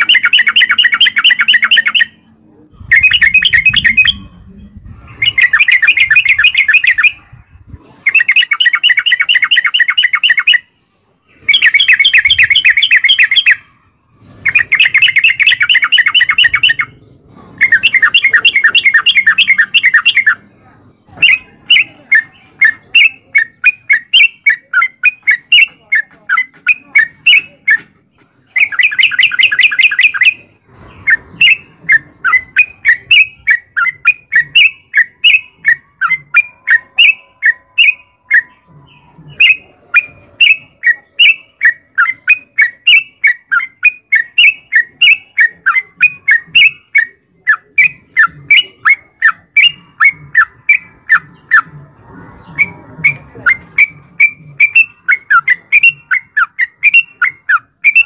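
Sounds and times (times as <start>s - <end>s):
bird sharp notes: 0.0s - 7.2s, 8.0s - 58.0s
bird singing rolling chatters: 0.0s - 58.0s.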